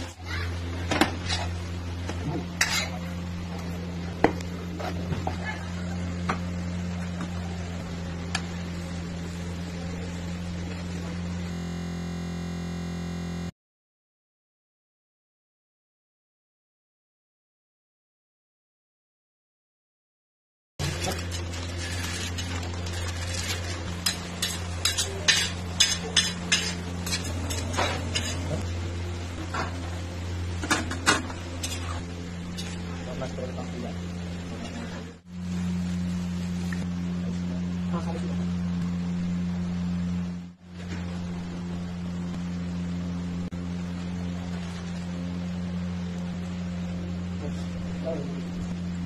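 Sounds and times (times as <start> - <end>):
kitchen hum and hiss: 0.0 - 11.5, 20.8 - 49.0.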